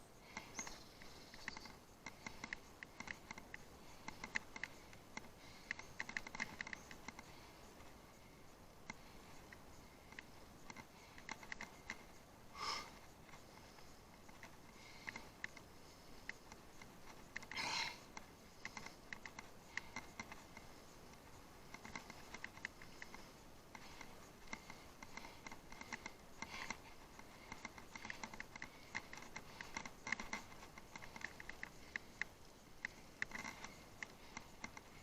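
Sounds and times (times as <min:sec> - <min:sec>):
bicycle rattling over rough ground: 0:00.2 - 0:35.0.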